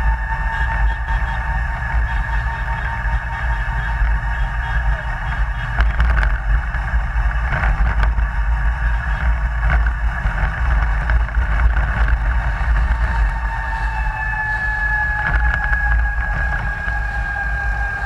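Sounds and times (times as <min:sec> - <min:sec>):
low rumble of road and wind: 0:00.0 - 0:18.0
steady high whine: 0:00.0 - 0:18.0.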